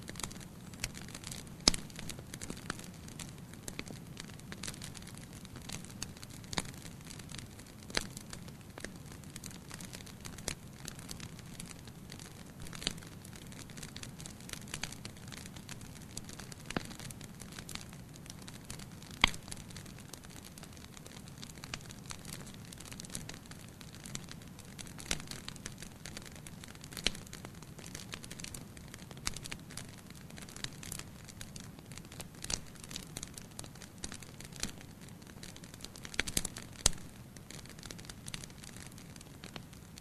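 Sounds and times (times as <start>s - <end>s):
fire crackles and pops: 0.0s - 40.0s.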